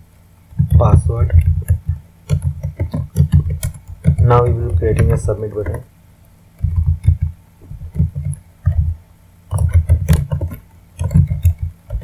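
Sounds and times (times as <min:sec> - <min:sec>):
computer keyboard typing: 0:00.5 - 0:05.8, 0:06.6 - 0:12.0.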